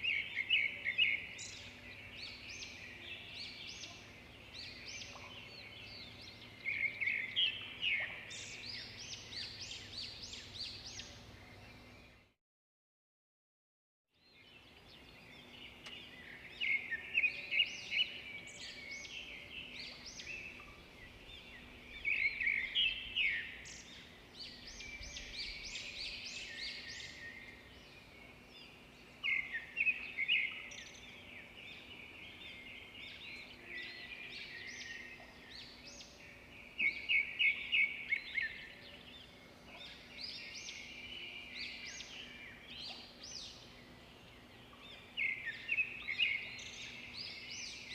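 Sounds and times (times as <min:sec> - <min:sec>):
songbird chirping: 0:00.0 - 0:12.4, 0:14.2 - 0:47.9.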